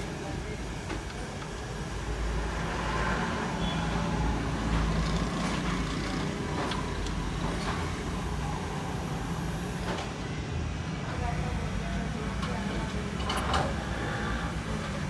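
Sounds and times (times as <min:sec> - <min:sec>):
traffic rumble: 0:00.3 - 0:15.0.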